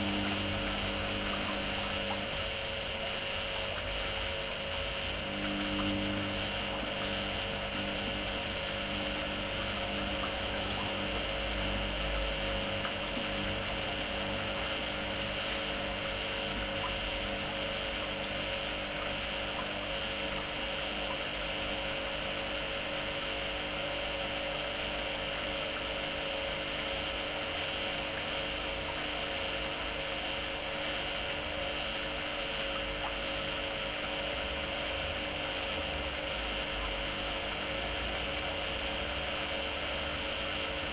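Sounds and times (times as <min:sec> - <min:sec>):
washing machine motor hum: 0:00.0 - 0:40.9.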